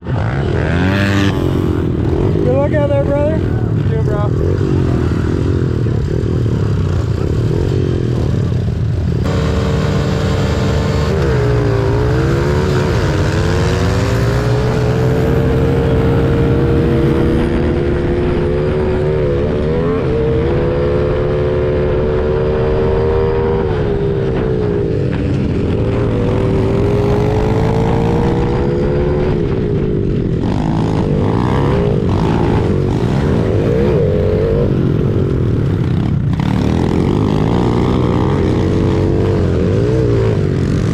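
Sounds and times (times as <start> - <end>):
other pit bike engines: 0.0 - 40.9
pit bike engine at full throttle: 0.0 - 40.9.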